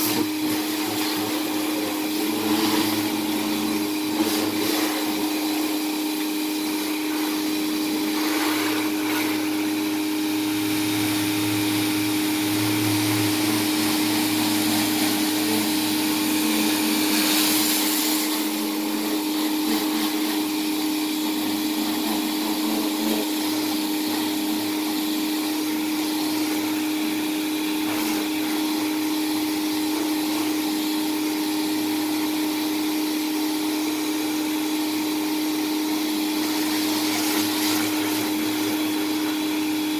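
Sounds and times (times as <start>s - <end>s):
pressure washer hum: 0.0s - 39.9s
water jet hissing on siding: 0.0s - 39.9s.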